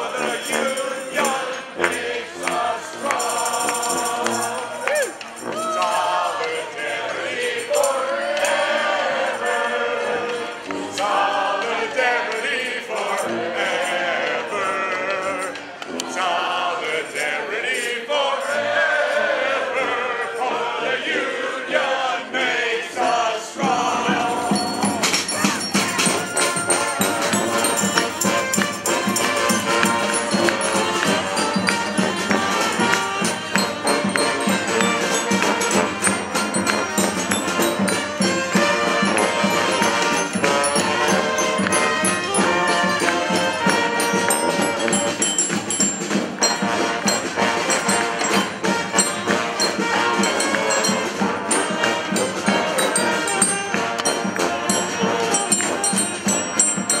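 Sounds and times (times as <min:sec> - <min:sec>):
hand percussion beat: 0:00.0 - 0:18.0, 0:23.6 - 0:57.0
brass horns playing: 0:00.0 - 0:57.0.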